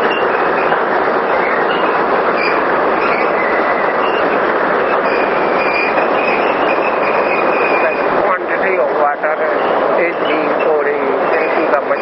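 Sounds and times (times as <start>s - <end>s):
rushing water and turbine machinery: 0.0s - 12.0s.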